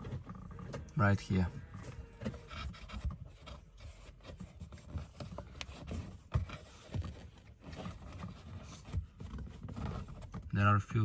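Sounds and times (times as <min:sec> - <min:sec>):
hands rubbing dashboard trim: 0:00.0 - 0:10.5.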